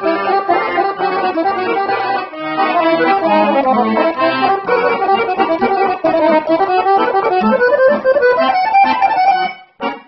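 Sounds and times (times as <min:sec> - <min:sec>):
accordion playing fast dance tune: 0:00.0 - 0:10.0.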